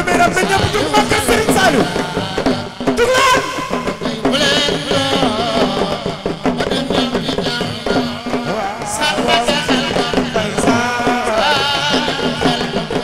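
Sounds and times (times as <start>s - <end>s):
man singing into a microphone: 0.0s - 13.0s
steady drumming: 0.0s - 13.0s.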